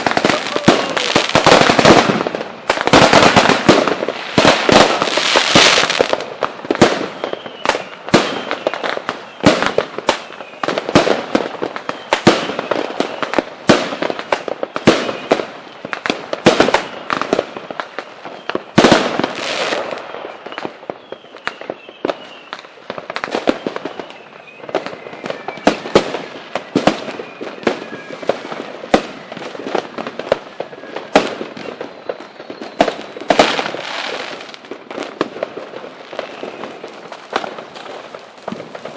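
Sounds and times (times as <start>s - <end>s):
fireworks bangs and cracks: 0.0s - 38.9s.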